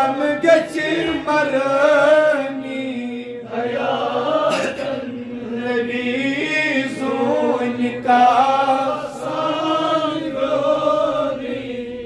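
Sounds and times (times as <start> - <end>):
man chanting unaccompanied: 0.0 - 10.3.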